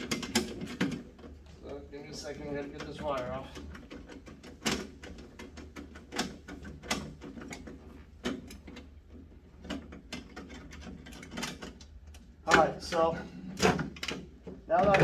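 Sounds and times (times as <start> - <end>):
hand tools clicking and knocking: 0.0 - 15.0.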